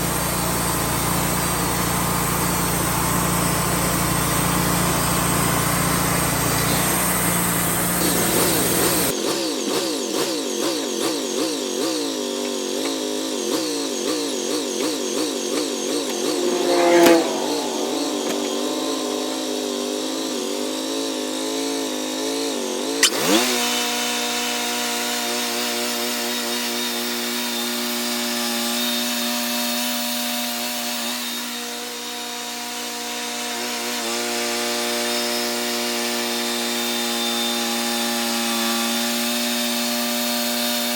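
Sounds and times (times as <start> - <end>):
band sawmill cutting log: 0.0 - 40.9.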